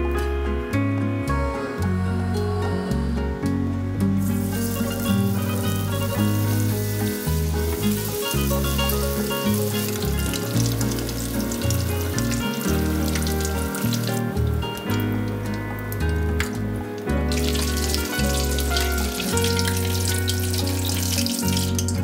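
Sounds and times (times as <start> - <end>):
background music: 0.0 - 22.0
food deep-frying in oil: 4.2 - 22.0.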